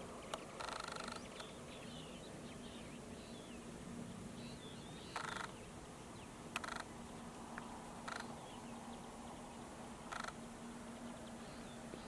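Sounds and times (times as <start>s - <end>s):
harsh bird calls: 0.0s - 3.6s, 4.4s - 12.0s
finches chirping: 0.2s - 3.6s, 4.4s - 12.0s.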